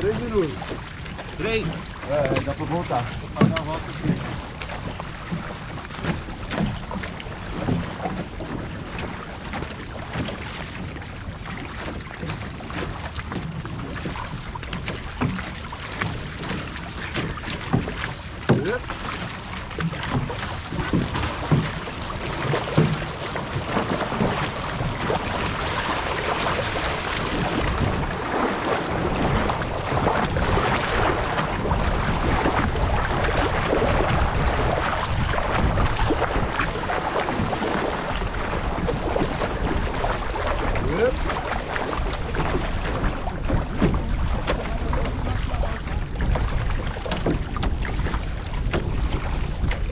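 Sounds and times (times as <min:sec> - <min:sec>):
water rushing along canoe hull: 0:00.0 - 0:49.9
wind buffeting microphone: 0:00.0 - 0:49.9.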